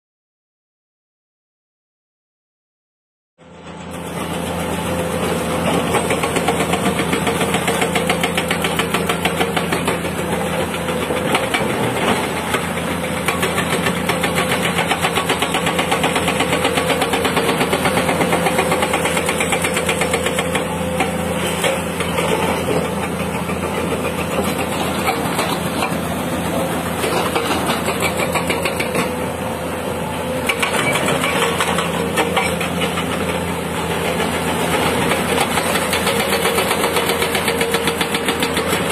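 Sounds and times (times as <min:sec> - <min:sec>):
excavator diesel engine running: 0:03.4 - 0:38.9.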